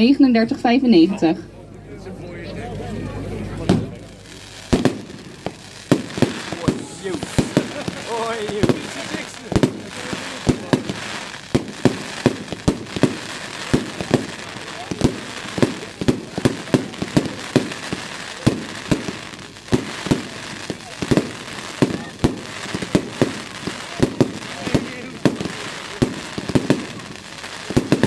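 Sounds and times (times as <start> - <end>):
firework sharp bangs: 3.7 - 28.0.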